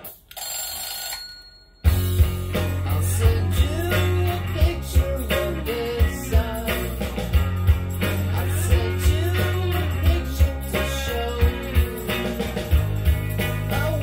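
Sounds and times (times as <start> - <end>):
song with singing over bass beat: 2.3 - 14.0.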